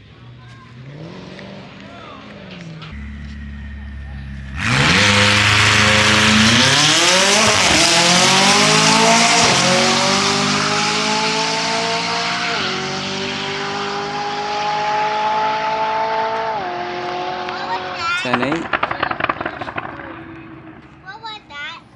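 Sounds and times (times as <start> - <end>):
car engine accelerating: 0.0 - 21.7.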